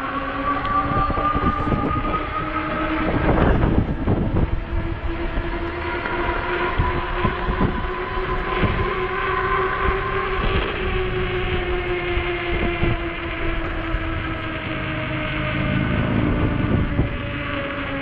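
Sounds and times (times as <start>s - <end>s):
electric bike motor whining: 0.0s - 18.0s
wind on microphone: 0.0s - 18.0s.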